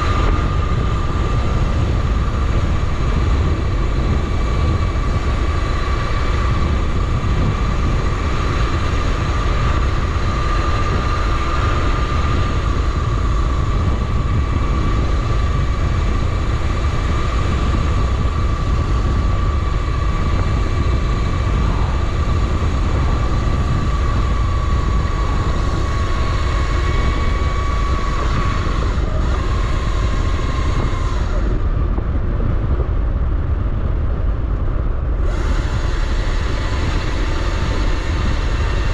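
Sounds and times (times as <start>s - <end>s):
electric motor whine: 0.0s - 32.8s, 35.2s - 38.9s
road noise: 0.0s - 38.9s
wind buffeting microphone: 0.0s - 38.9s.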